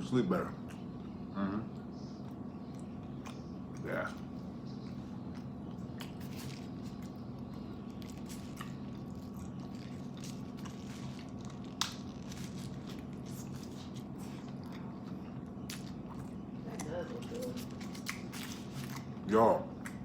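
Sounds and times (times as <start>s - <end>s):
steady low hum: 0.0s - 20.0s
man chewing food: 0.5s - 20.0s.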